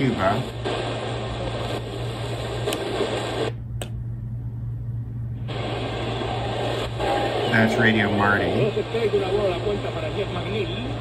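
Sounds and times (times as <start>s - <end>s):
radio static and hiss: 0.0s - 3.6s, 5.4s - 11.0s
steady low hum: 0.0s - 11.0s
weak radio station audio: 0.0s - 11.0s.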